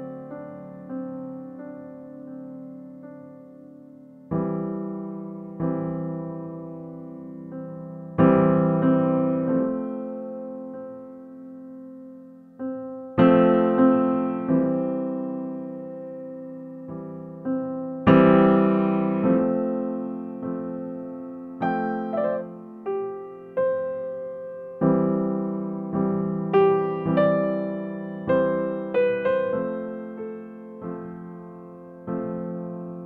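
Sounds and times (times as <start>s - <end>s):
slow piano tune: 0.0s - 33.0s.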